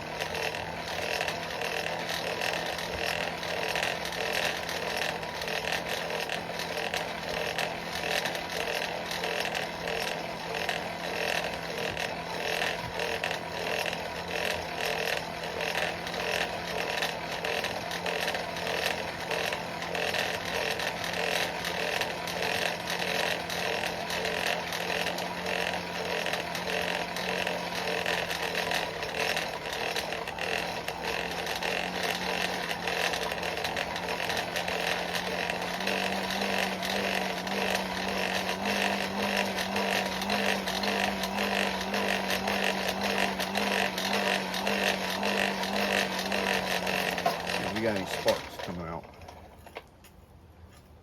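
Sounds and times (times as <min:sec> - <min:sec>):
electric air blower humming: 0:00.0 - 0:49.4.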